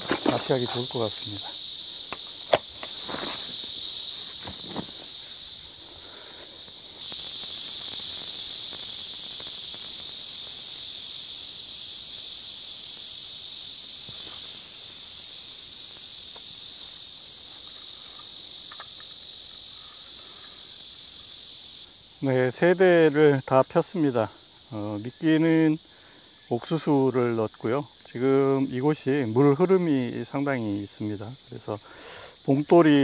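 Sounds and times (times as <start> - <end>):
shrill insect chorus: 0.0 - 33.0.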